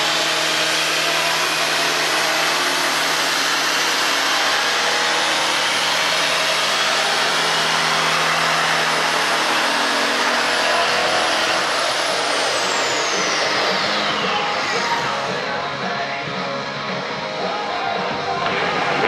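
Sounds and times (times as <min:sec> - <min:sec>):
electric planer on wood: 0:00.0 - 0:15.9.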